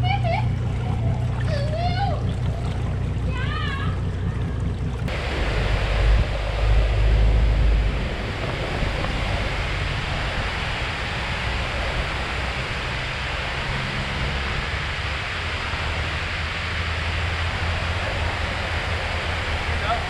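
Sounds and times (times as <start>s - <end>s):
wind rumble on microphone: 0.0s - 20.0s
water rushing over spillway: 0.1s - 20.0s.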